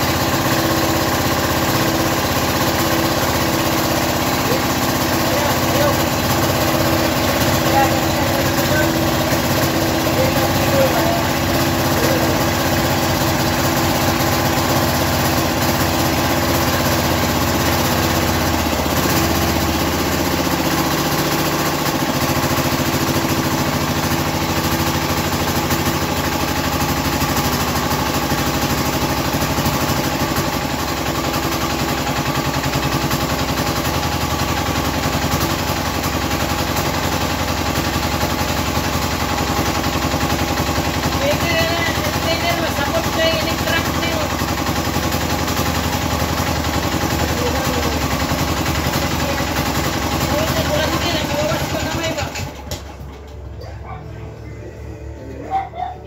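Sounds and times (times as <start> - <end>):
small diesel engine running: 0.0 - 55.7.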